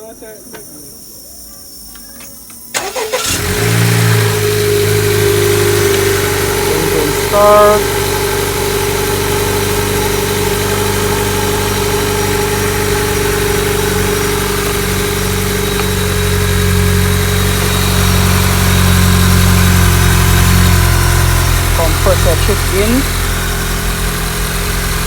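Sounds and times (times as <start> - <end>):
car engine idling: 2.7 - 25.0.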